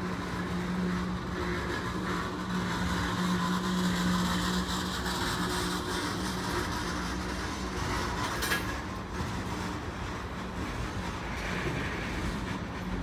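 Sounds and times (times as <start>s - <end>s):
constant low drone: 0.0s - 13.0s
train wheels rumbling on rail: 0.0s - 13.0s.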